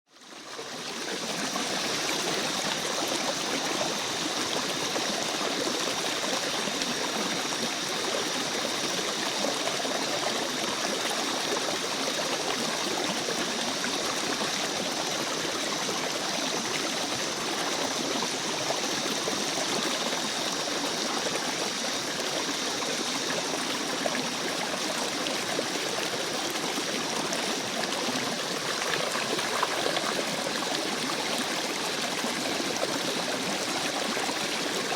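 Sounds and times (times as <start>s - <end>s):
stream water flowing: 0.2s - 34.9s.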